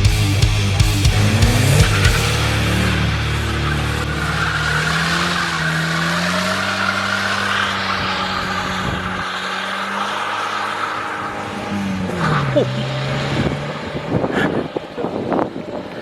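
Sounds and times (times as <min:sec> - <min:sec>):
car engine running: 0:00.0 - 0:15.4.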